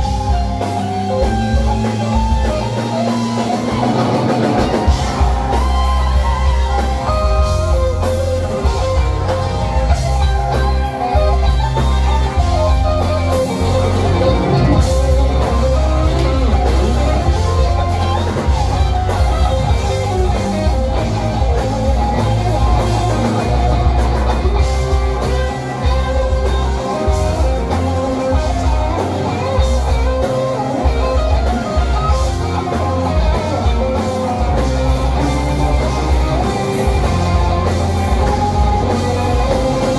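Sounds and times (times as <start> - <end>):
drums: 0.0 - 39.9
electric guitar bending notes: 0.0 - 39.9
heavy bass line: 0.0 - 39.9.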